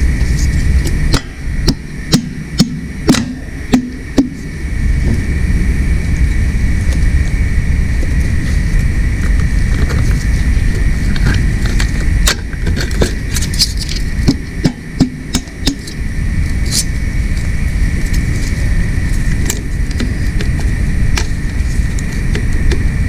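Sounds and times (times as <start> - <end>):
constant high hum: 0.0 - 23.0
steady low rumble: 0.0 - 23.0.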